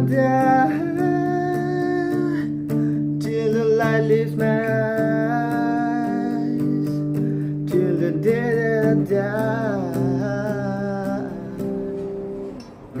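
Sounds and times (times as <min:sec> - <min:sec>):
acoustic guitar strumming: 0:00.0 - 0:13.0
person singing slow melody: 0:00.0 - 0:13.0.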